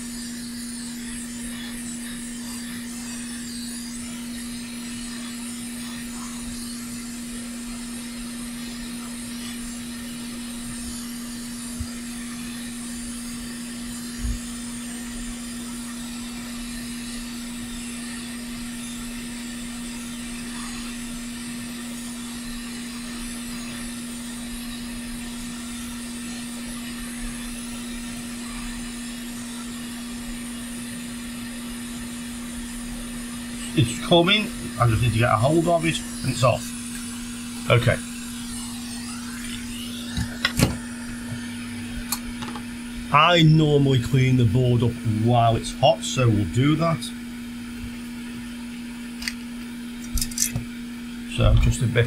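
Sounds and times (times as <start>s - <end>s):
hot air blower hum: 0.0s - 52.0s.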